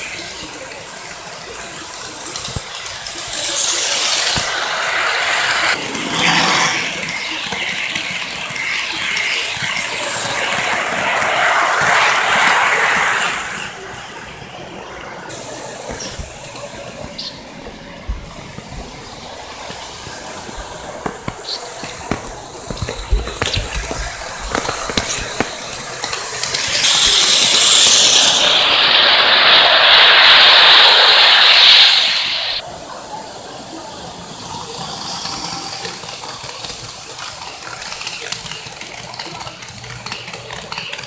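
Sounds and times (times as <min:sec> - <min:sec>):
model train running on track: 0:00.0 - 0:41.0
loud rushing hiss: 0:00.1 - 0:33.8.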